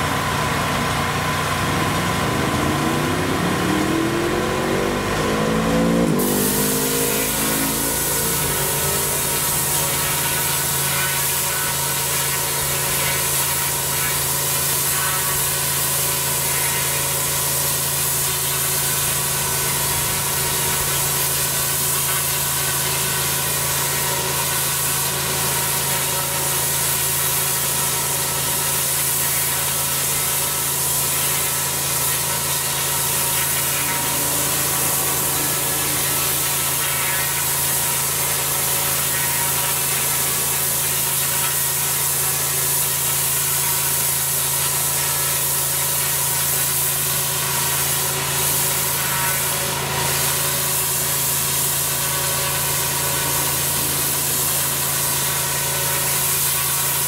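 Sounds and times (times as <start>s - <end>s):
pressure washer engine humming: 0.0s - 57.0s
water jet hissing on paving: 6.1s - 57.0s.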